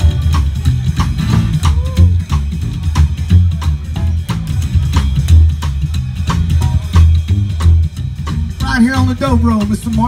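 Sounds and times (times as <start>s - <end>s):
country band playing: 0.0s - 10.0s.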